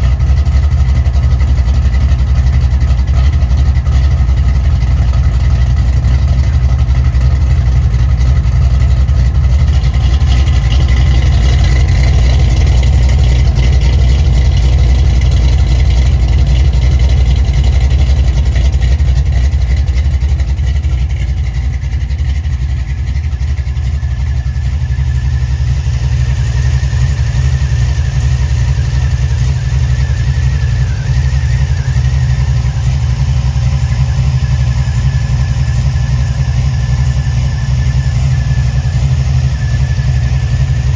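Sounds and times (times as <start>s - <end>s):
vee eight engine idling: 0.0s - 40.9s.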